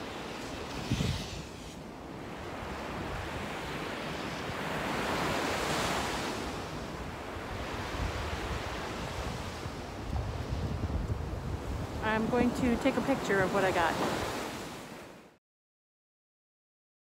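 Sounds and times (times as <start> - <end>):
waves breaking on a beach: 0.0 - 15.4.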